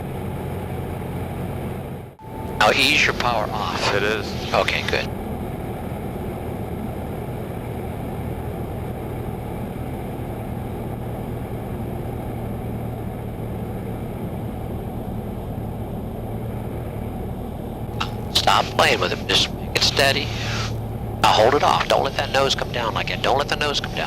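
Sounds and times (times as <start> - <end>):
light aircraft engine and propeller: 0.0 - 24.0.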